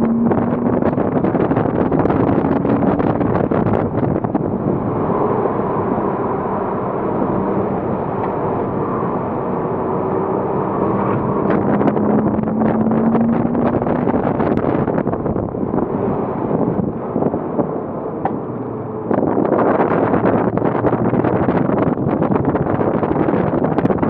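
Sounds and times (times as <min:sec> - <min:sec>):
car engine at speed: 0:00.0 - 0:24.0
tyre and road noise: 0:00.0 - 0:24.0.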